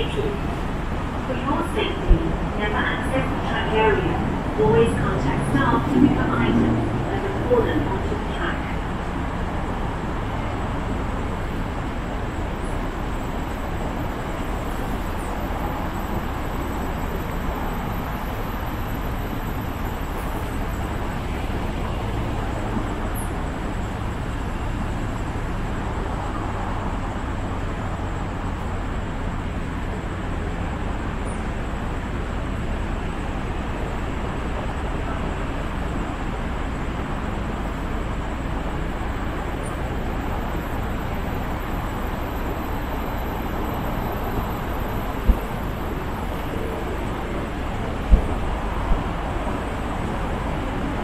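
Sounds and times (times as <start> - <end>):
stationary electric train humming: 0.0 - 51.0.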